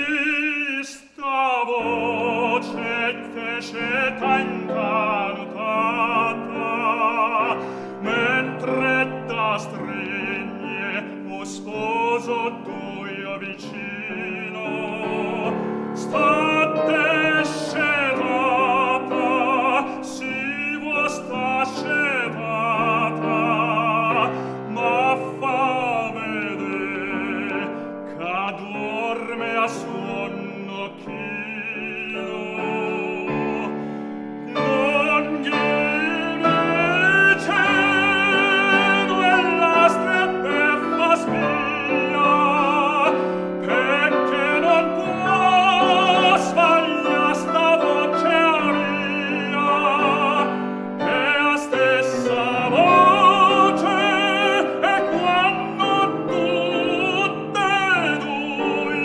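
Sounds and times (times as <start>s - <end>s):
piano accompaniment: 0.0s - 0.6s, 1.3s - 59.0s
operatic tenor singing: 0.0s - 59.0s.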